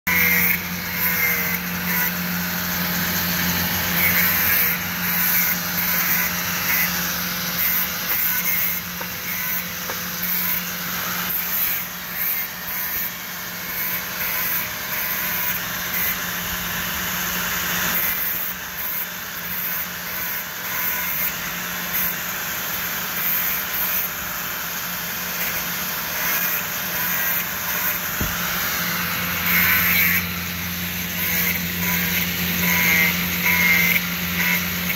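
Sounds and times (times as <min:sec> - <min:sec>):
angle grinder grinding brake pads: 0:00.1 - 0:34.9.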